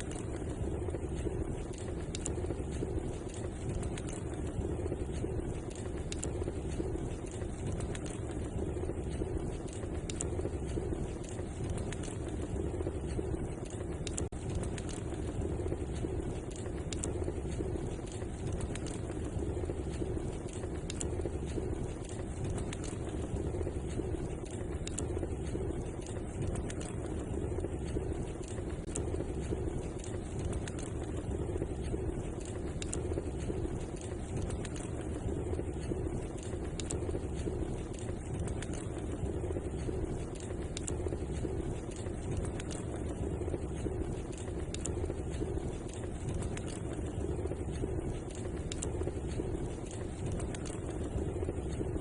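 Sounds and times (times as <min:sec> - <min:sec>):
fire crackling and popping: 0:00.0 - 0:52.0
wood fire rushing: 0:00.0 - 0:52.0.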